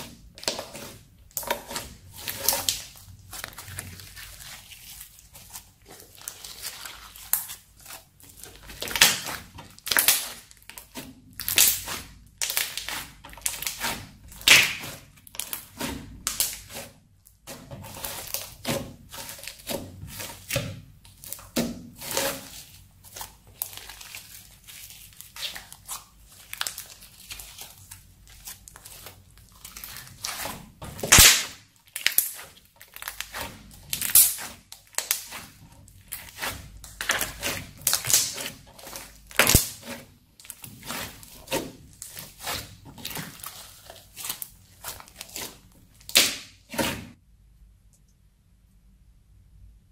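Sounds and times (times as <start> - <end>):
crunchy slime crackling: 0.0 - 47.2.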